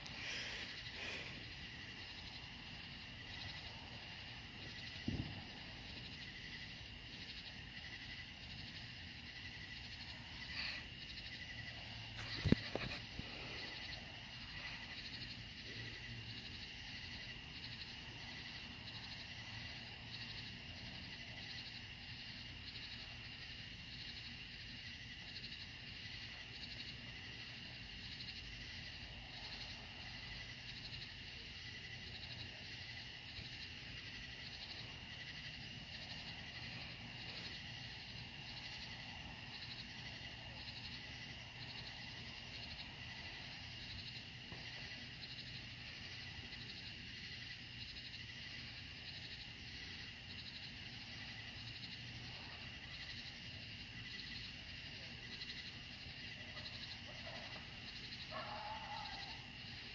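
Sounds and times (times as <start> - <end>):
night insects trilling: 0.0 - 59.9.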